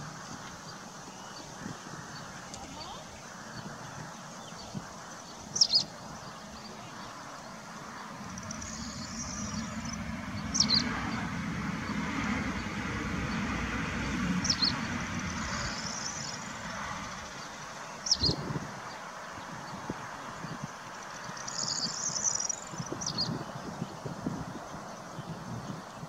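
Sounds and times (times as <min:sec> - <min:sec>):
outdoor background noise: 0:00.0 - 0:26.0
bird chirp: 0:00.6 - 0:26.0.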